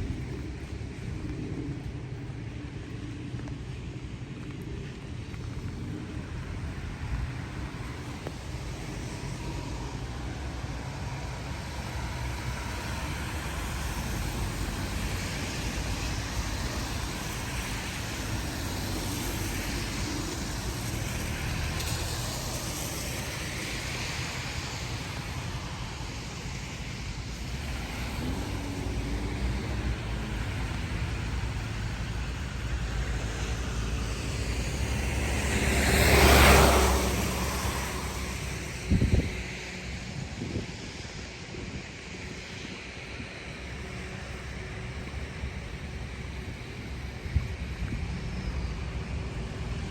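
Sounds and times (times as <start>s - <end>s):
cars passing on wet road: 0.0s - 49.9s.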